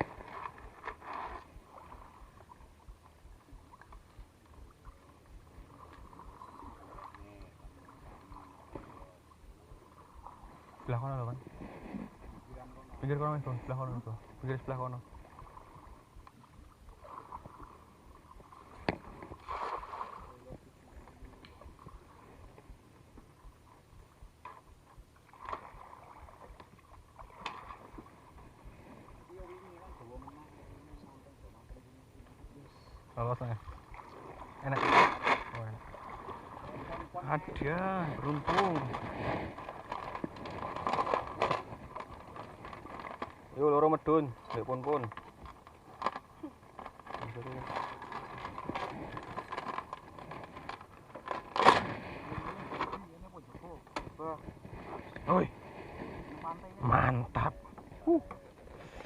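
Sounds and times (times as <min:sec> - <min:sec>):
water sloshing and splashing: 0:00.0 - 0:59.0.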